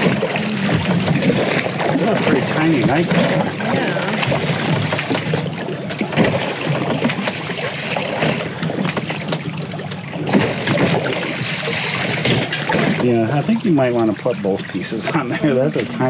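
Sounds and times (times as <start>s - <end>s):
low hum: 0.0s - 16.0s
water lapping against boat hull: 0.0s - 16.0s.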